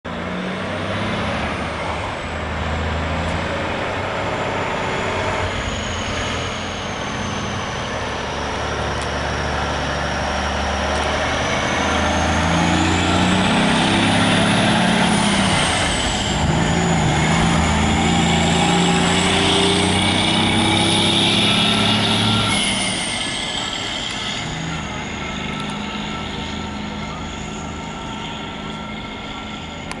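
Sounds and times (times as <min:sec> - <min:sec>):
diesel truck engine under load: 0:00.0 - 0:30.0.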